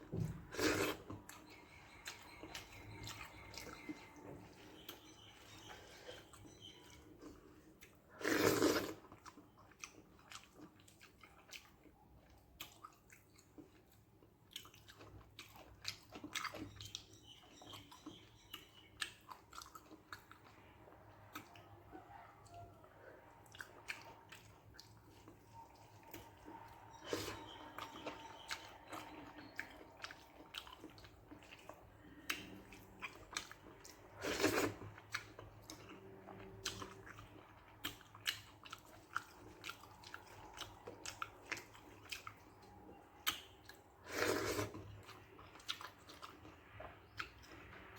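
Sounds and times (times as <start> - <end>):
person chewing with wet smacks: 0.0 - 47.9.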